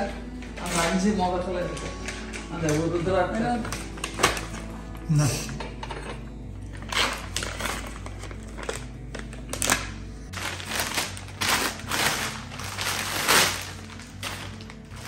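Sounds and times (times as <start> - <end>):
packaging rustling and crinkling: 0.0 - 4.9, 6.8 - 15.0.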